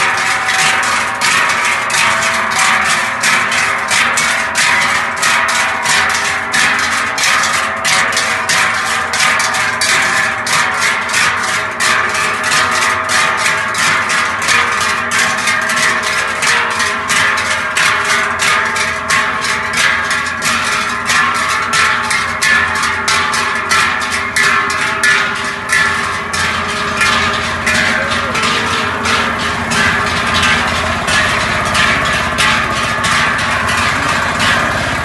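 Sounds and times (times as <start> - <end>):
large cowbells clanging: 0.0 - 35.0.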